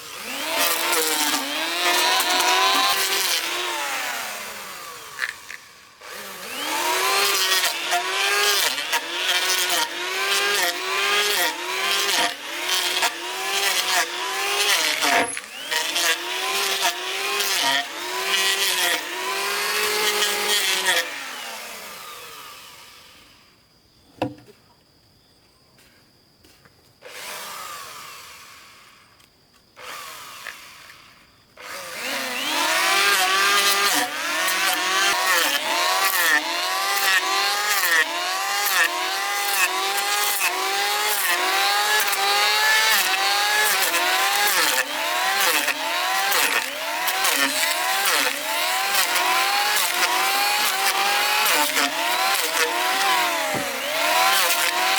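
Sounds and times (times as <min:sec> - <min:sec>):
motor winding down: 0:00.0 - 0:18.6, 0:27.1 - 0:29.0, 0:29.8 - 0:54.9
power tool motor under load: 0:00.0 - 0:23.4, 0:27.0 - 0:29.2, 0:29.8 - 0:54.9.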